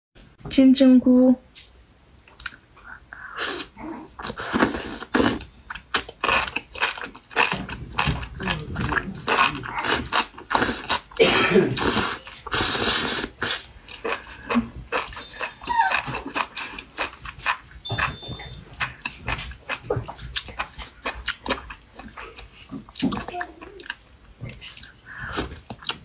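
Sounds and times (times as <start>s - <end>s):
slurping mushrooms: 2.4s - 26.0s.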